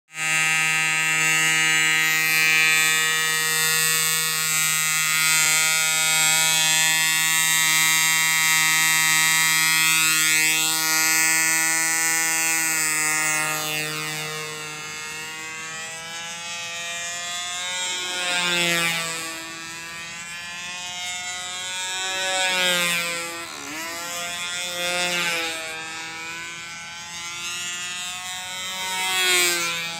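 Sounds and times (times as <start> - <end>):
model aircraft engine buzzing: 0.1 - 29.9.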